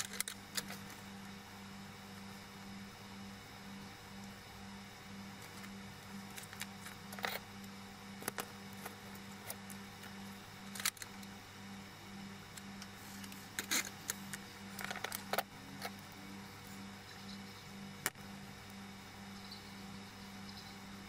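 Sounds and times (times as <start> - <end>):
faint pulsing hum: 0.0 - 21.0.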